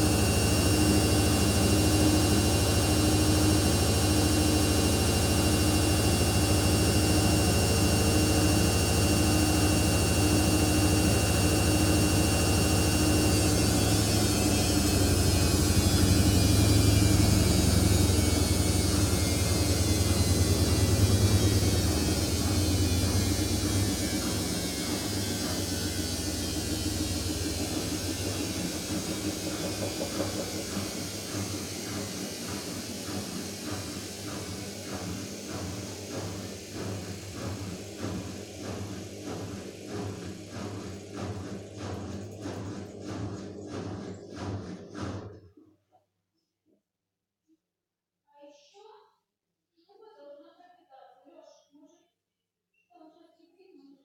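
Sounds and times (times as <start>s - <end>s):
washing machine spinning: 0.0s - 45.6s.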